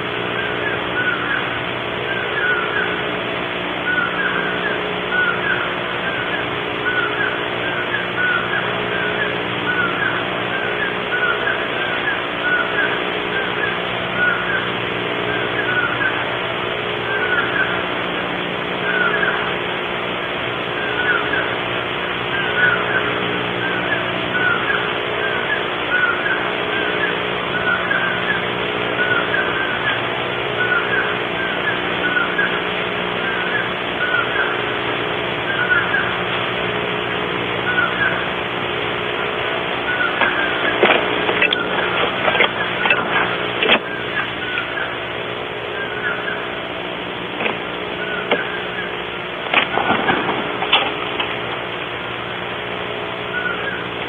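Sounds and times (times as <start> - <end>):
electrical hum and hiss: 0.0 - 54.0
bird chirping: 0.3 - 3.1, 3.8 - 16.4, 17.0 - 17.9, 18.8 - 19.6, 20.7 - 21.6, 22.3 - 34.8, 35.4 - 36.2, 37.6 - 38.3, 39.5 - 46.8, 47.4 - 51.4, 53.2 - 54.0.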